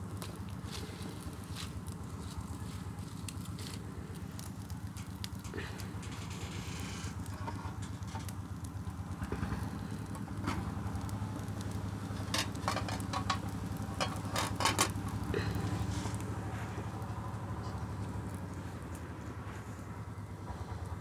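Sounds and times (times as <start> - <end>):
fire crackling and popping: 0.0 - 21.0
sharp cracks of fire: 0.0 - 21.0.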